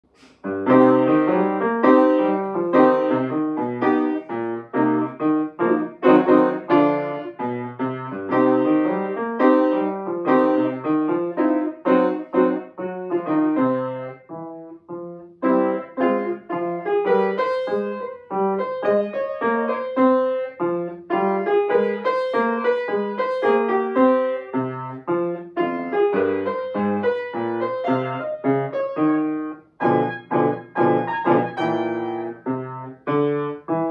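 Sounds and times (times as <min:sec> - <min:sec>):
solo grand piano: 0:00.1 - 0:33.9.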